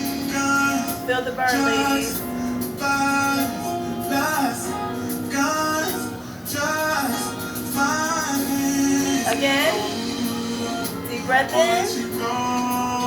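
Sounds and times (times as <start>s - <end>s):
person singing soul song: 0.0s - 13.0s.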